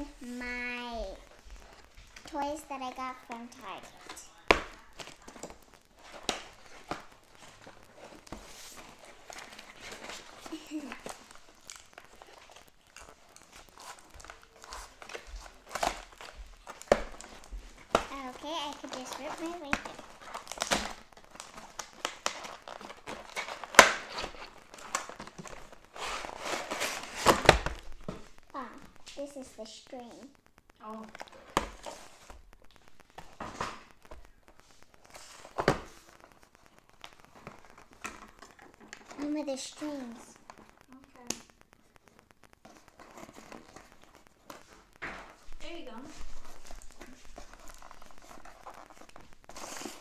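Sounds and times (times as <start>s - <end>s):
cardboard packaging rustling: 0.0s - 50.0s
packaging crackle: 0.0s - 50.0s.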